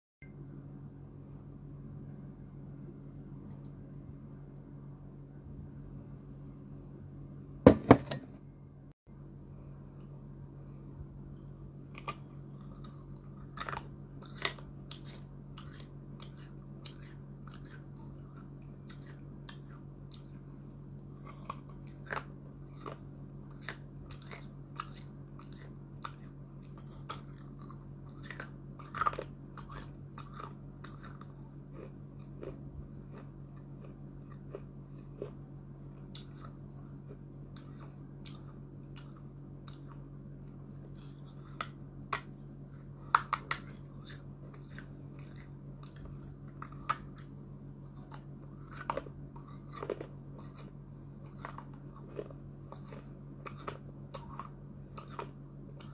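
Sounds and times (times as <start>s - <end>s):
steady low hum: 0.2s - 55.9s.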